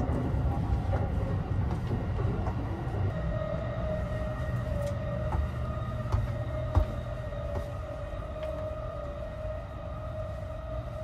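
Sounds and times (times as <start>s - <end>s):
train carriage electrical hum: 0.0s - 11.0s
whine-like tone: 0.0s - 11.0s.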